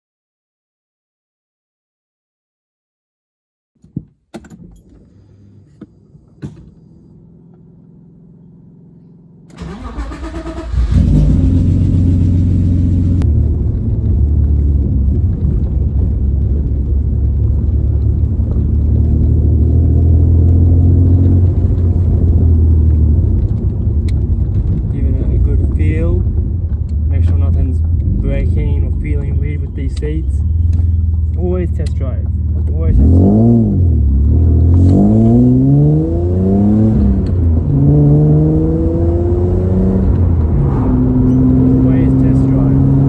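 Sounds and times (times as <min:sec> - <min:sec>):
car engine cranking and idling: 0:04.1 - 0:43.0.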